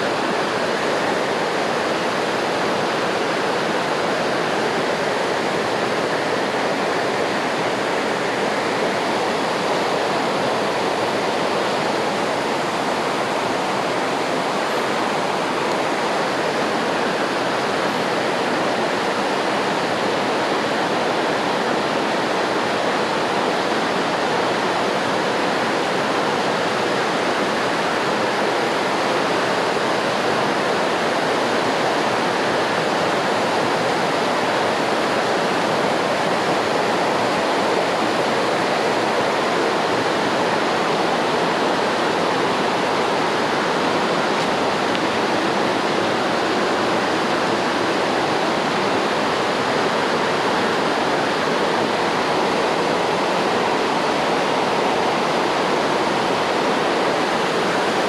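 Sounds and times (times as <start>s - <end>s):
water rushing and splashing: 0.0s - 58.0s.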